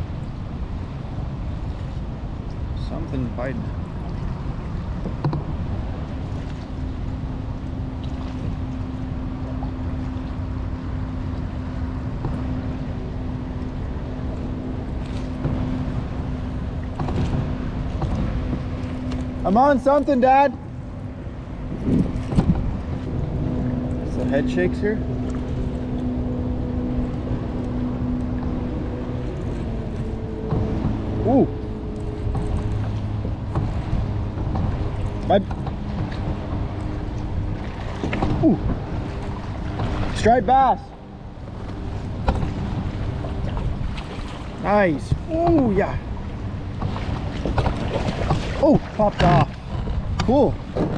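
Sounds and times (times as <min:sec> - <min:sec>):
steady low hum: 0:00.0 - 0:50.9
water lapping: 0:00.0 - 0:50.9
wind buffeting microphone: 0:00.0 - 0:50.9.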